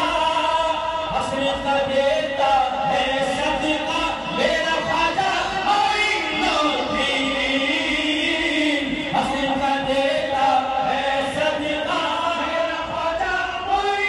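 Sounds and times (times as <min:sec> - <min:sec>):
crowd chanting a devotional refrain: 0:00.0 - 0:14.0.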